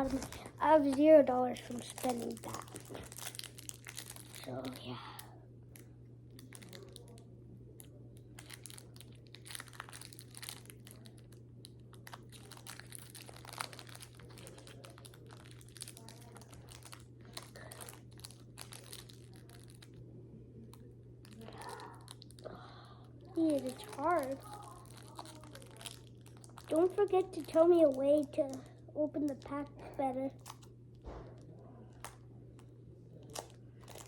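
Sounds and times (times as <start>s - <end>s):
foil pack crinkling and tearing: 0.0s - 5.3s, 6.4s - 7.2s, 8.3s - 20.0s, 20.7s - 30.7s, 33.2s - 34.0s
steady low hum: 0.0s - 34.0s.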